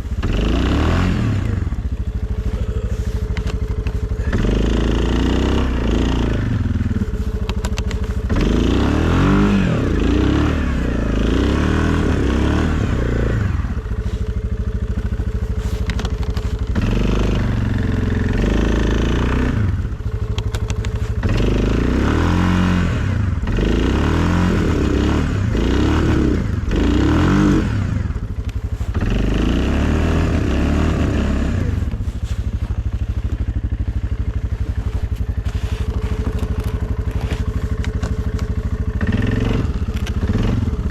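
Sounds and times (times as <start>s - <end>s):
atv engine revving under load: 0.0s - 40.9s.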